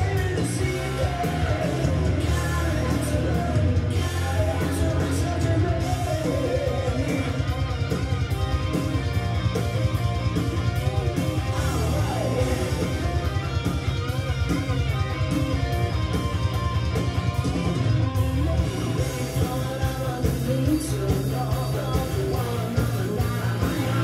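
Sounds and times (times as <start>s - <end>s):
rock song with singing and guitar: 0.0s - 24.0s.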